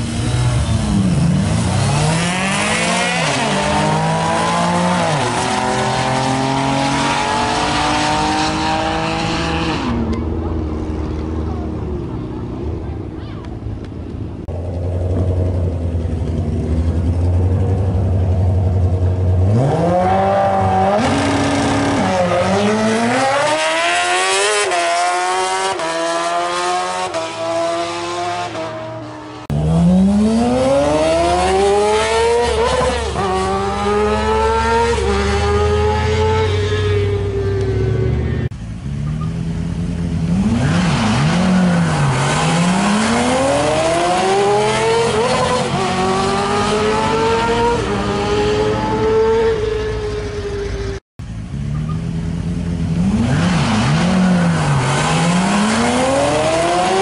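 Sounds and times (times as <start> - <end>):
engine revving: 0.0 - 10.2, 14.9 - 39.2, 40.0 - 51.0, 51.8 - 57.0
racing engines at full throttle: 0.0 - 57.0.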